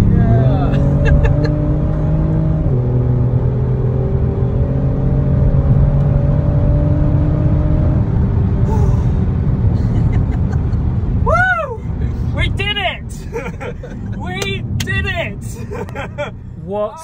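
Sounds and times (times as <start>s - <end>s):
car engine droning: 0.0s - 17.0s
road rumble: 0.0s - 17.0s.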